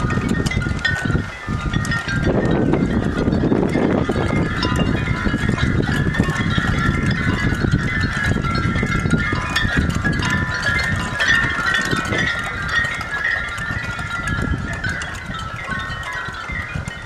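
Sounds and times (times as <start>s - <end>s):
glass bottles clinking as wind chimes: 0.0s - 17.0s
low wind rumble: 0.0s - 17.0s.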